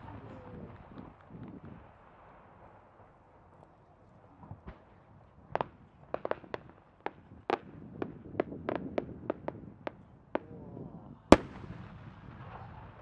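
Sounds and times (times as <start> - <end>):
firework pops and crackles: 0.0 - 12.8.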